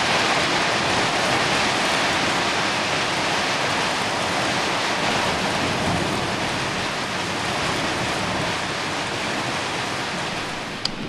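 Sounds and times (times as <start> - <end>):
wind and rain storm hiss: 0.0 - 11.0.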